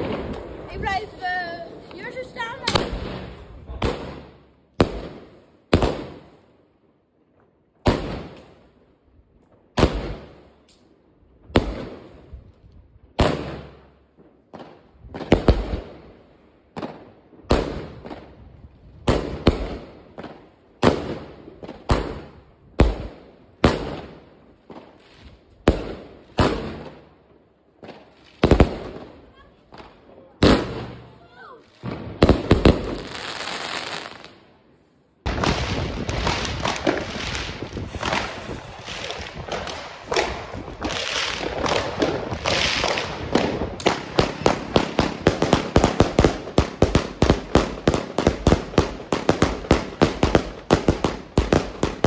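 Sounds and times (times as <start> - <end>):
firework bangs: 0.0 - 6.4, 7.8 - 8.6, 9.7 - 10.4, 13.1 - 13.9, 16.7 - 27.2, 27.8 - 34.4, 35.2 - 52.0.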